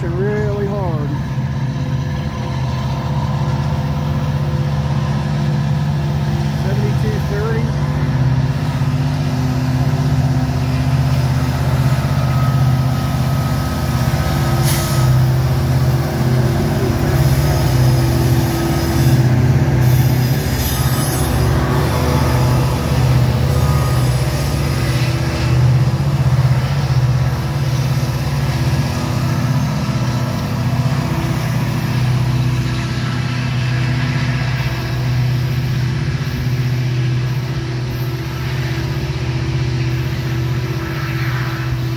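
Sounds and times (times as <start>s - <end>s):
diesel locomotive engine drone: 0.0s - 41.9s.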